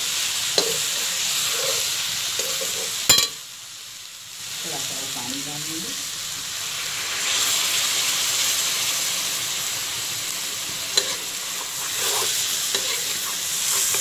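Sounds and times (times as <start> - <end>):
water sizzling in hot pan: 0.0 - 14.0.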